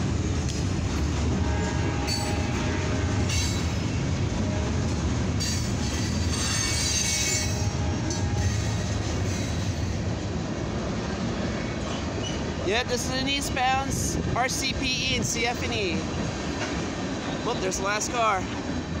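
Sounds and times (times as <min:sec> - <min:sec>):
freight cars rumbling over rails: 0:00.0 - 0:19.0.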